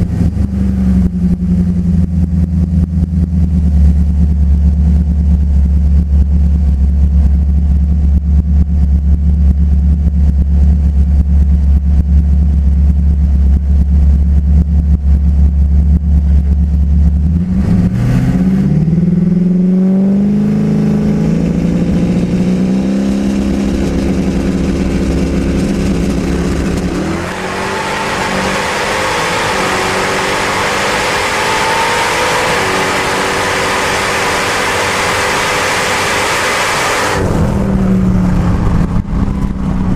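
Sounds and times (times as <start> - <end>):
drag car engine revving: 0.0 - 39.9.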